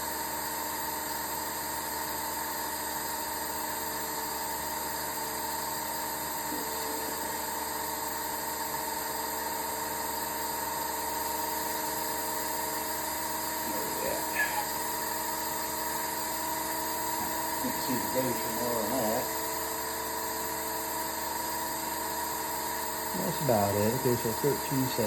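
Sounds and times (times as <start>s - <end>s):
model jet engine whine: 0.0s - 25.0s.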